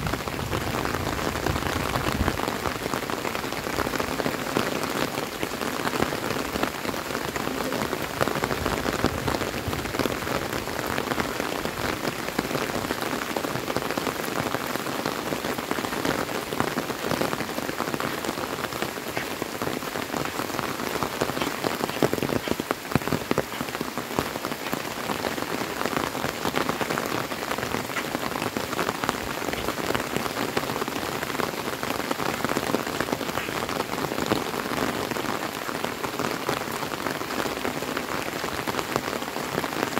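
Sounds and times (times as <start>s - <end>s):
rain hissing: 0.0s - 39.9s
raindrops ticking: 0.1s - 39.9s.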